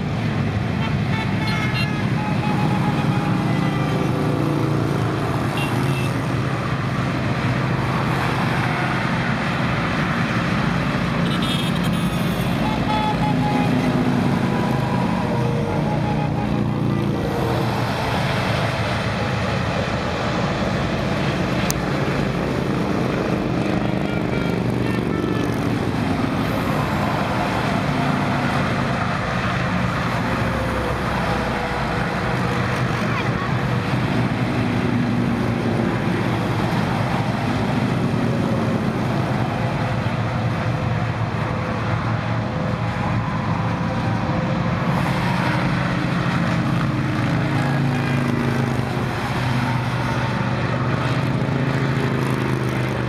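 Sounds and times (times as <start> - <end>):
traffic passing: 0.0 - 53.0.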